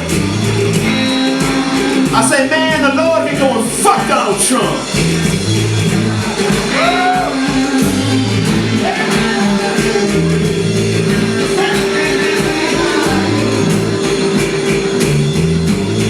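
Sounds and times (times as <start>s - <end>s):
live rock and roll band: 0.0s - 16.0s
person singing: 0.8s - 5.1s, 5.8s - 16.0s.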